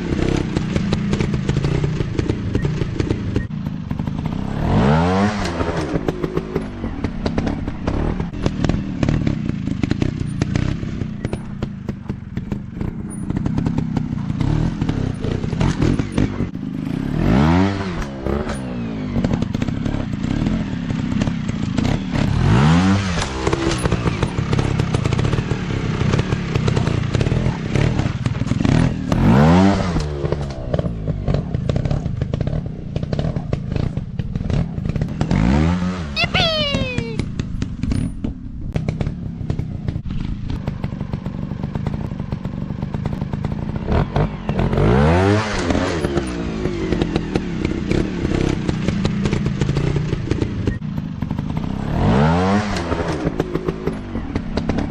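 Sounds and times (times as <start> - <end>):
trail motorbike engines revving: 0.0 - 54.9.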